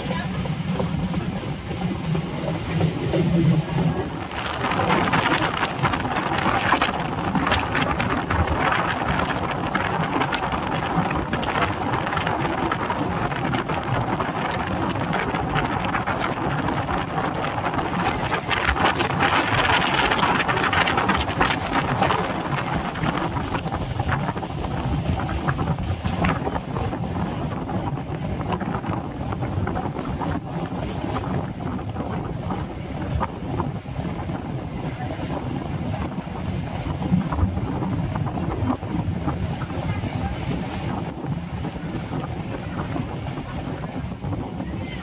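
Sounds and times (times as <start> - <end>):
rushing air: 0.0 - 45.0
train wheels rumbling on rails: 0.0 - 45.0.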